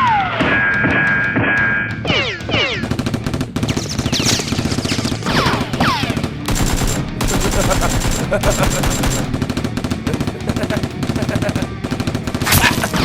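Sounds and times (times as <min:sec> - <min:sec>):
automatic gunfire: 0:02.1 - 0:13.0.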